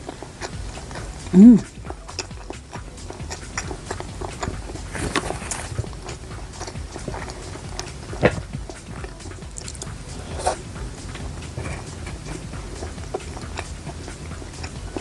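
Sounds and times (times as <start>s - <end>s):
chewing and lip-smacking: 0.0s - 15.0s
wet mouth clicks: 0.0s - 15.0s.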